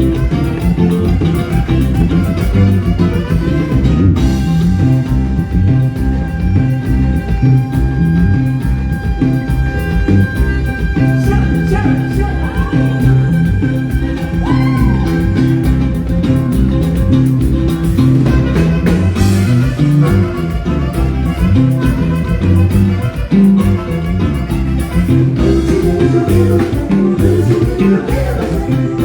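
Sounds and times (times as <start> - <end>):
band music with guitar and drums: 0.0 - 29.0.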